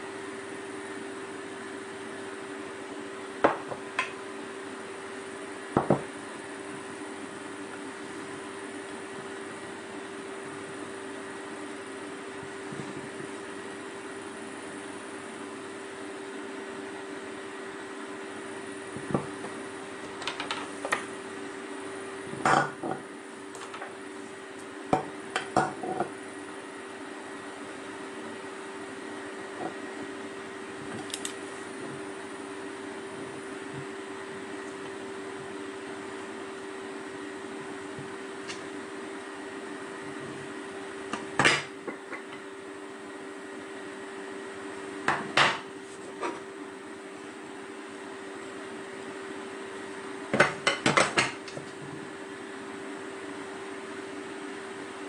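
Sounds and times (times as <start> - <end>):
steady low hum: 0.0 - 53.4.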